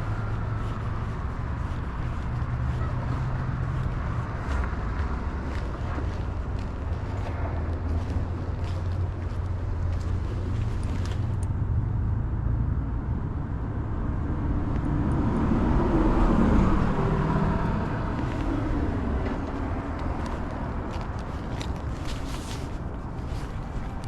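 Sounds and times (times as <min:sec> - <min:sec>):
vehicle passing by: 0:00.0 - 0:13.0, 0:13.8 - 0:24.0
steady low traffic rumble: 0:00.0 - 0:24.0.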